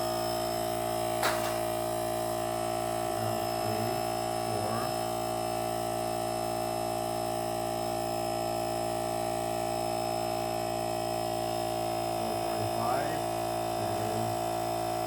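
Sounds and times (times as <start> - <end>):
electric compressor buzzing hum: 0.0 - 15.0.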